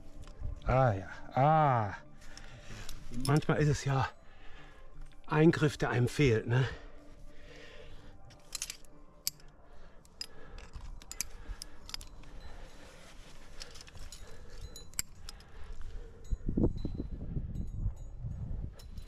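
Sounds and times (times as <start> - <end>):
climbing gear clinking: 2.2 - 19.0.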